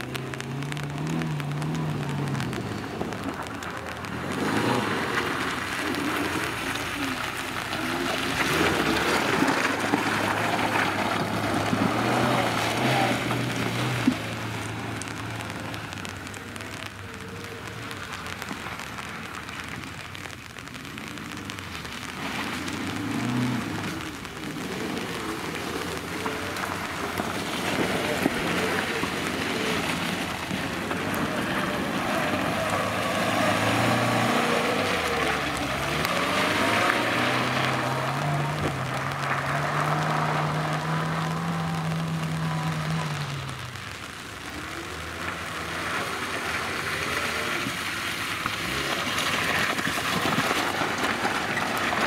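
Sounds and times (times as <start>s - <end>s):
off-road vehicle engine running: 0.0s - 52.0s.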